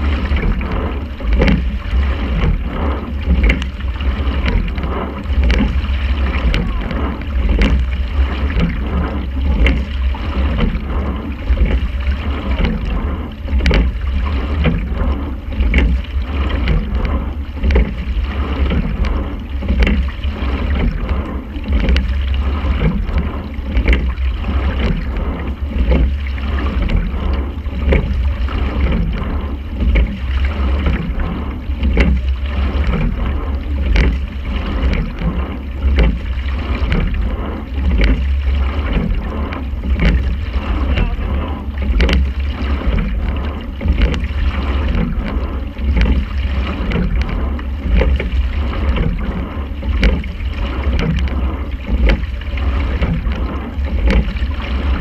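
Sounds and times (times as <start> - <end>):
oars clunking in oarlocks: 0.0 - 55.0
wind and water rumble: 0.0 - 55.0.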